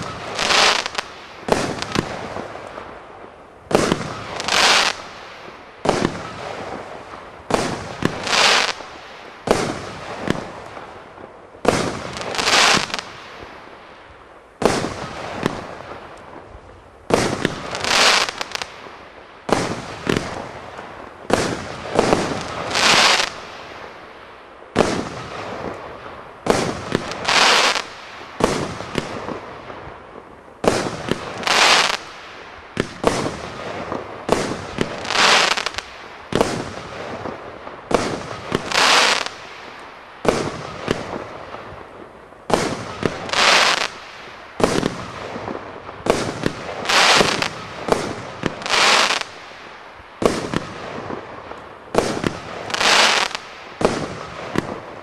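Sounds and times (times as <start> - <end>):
firework bangs: 0.0 - 3.0, 3.7 - 13.6, 14.6 - 24.0, 24.7 - 55.0.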